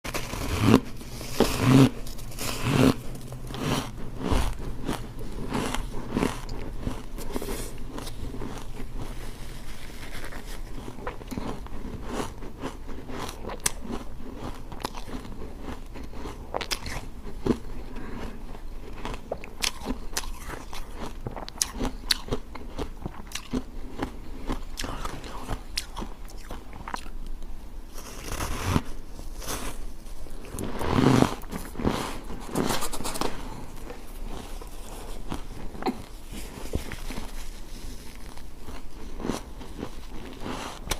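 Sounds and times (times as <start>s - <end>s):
ice being chewed crunching: 0.1s - 27.3s, 27.9s - 40.9s.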